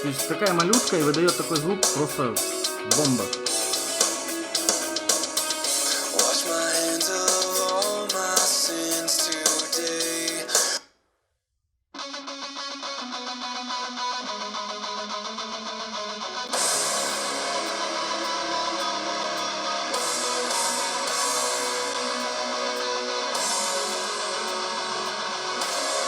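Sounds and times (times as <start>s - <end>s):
guitar band music through small speaker: 0.0s - 10.8s, 12.0s - 26.0s.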